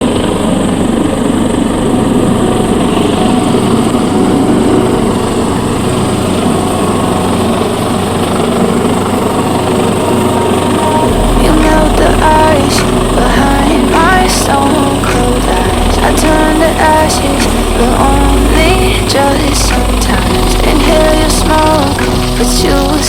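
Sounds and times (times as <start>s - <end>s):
helicopter rotor and engines: 0.0s - 20.6s.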